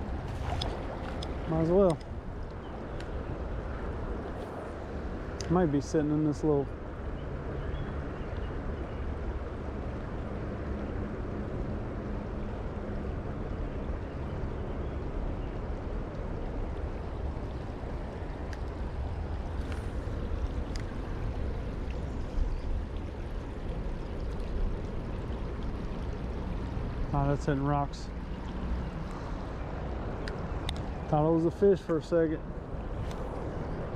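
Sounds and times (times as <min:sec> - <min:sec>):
creek water rushing: 0:00.0 - 0:33.9.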